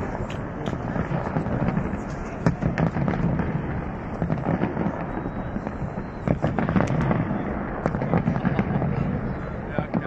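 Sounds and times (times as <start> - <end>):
fireworks bursting: 0.0 - 10.0
fireworks crackling: 0.0 - 10.0
rumble of explosions: 0.0 - 10.0.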